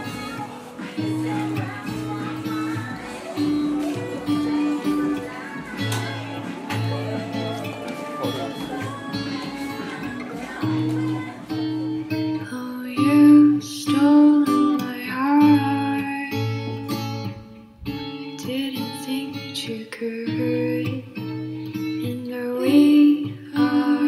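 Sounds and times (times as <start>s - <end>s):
guitar song with singing: 0.0s - 24.0s.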